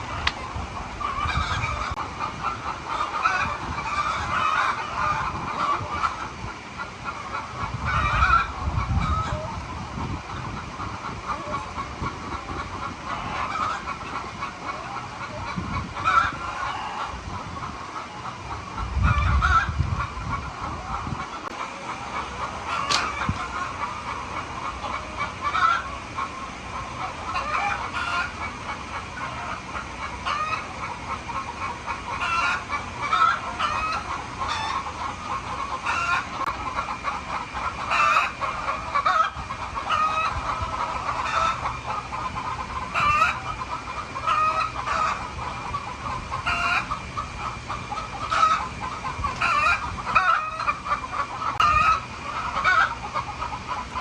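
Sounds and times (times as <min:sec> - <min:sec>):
hens clucking: 0:00.0 - 0:54.0.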